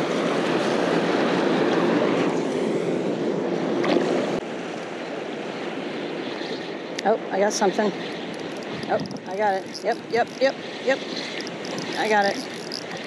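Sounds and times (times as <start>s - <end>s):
water in the shallows: 0.0s - 13.0s.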